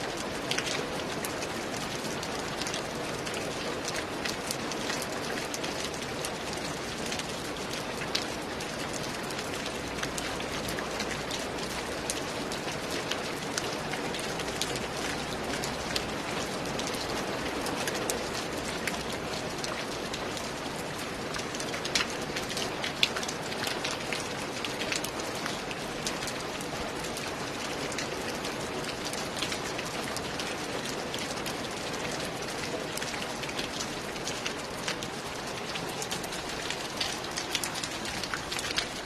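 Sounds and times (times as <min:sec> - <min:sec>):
rain falling on a roof: 0:00.0 - 0:39.0.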